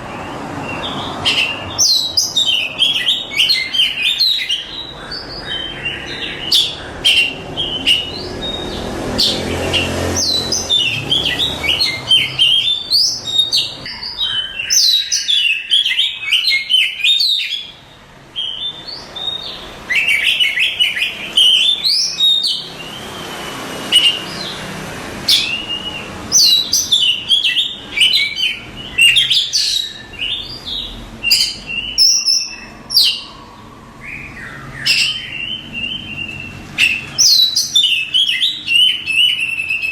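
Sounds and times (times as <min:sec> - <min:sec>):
bird singing whistles and trills: 0:00.0 - 0:24.6, 0:25.3 - 0:39.9.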